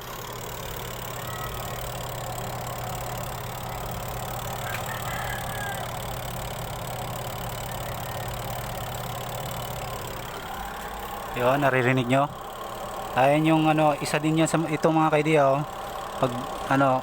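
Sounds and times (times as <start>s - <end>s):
spin-dryer motor humming: 0.0s - 17.0s.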